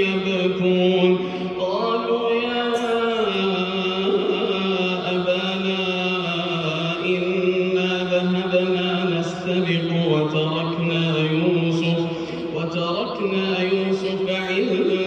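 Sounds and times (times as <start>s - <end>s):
man reciting in melodic chant: 0.0s - 15.0s.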